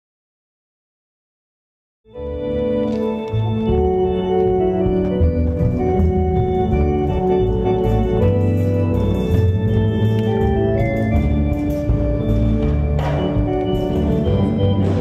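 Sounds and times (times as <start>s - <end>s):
organ playing chords: 2.1s - 15.0s.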